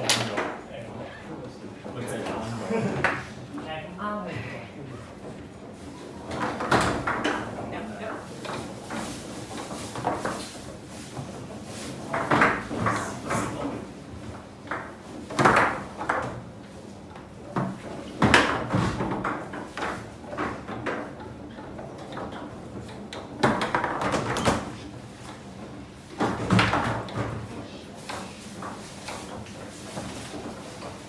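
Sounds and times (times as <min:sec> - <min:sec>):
foosball clacks and bangs: 0:00.0 - 0:00.7, 0:05.1 - 0:31.0.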